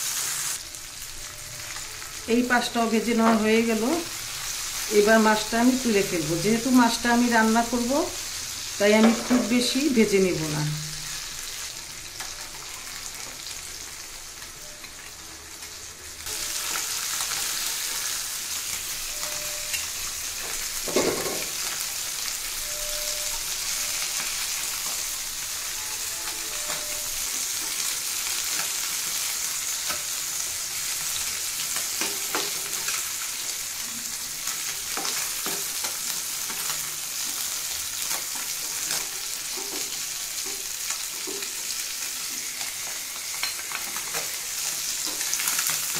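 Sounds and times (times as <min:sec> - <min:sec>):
fish sizzling in hot oil: 0:00.0 - 0:45.9.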